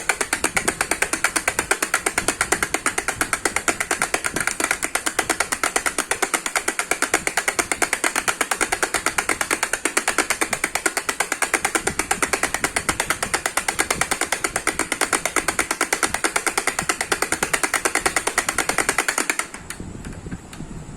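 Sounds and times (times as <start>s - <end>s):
baby rattle shaken: 0.0s - 19.7s.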